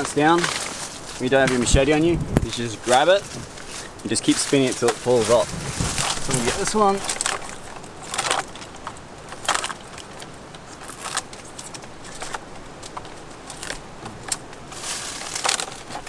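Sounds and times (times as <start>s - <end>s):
coconut stalk crackling and rustling: 0.0s - 16.0s.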